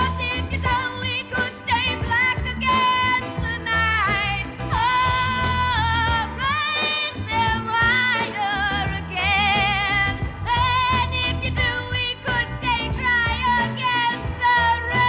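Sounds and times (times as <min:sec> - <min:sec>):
band with bass and drums: 0:00.0 - 0:15.0
woman singing with vibrato: 0:00.0 - 0:15.0.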